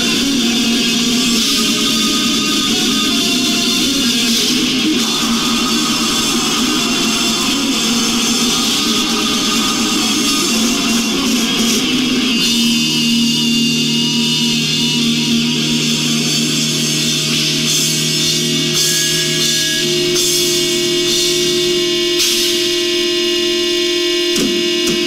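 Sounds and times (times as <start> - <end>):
heavy metal electric guitar: 0.0 - 25.0.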